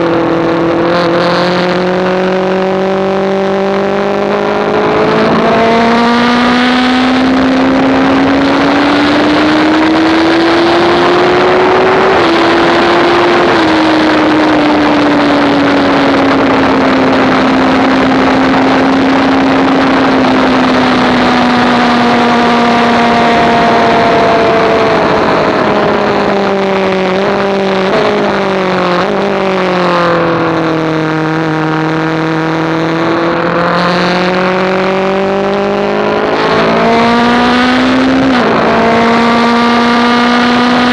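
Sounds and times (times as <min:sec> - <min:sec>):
motorcycle engine at speed: 0:00.0 - 0:40.9
wind rush: 0:00.0 - 0:40.9.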